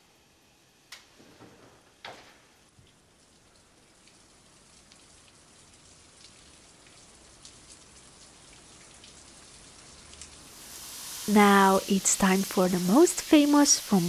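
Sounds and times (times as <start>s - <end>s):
light rain on a window: 0.0s - 14.0s.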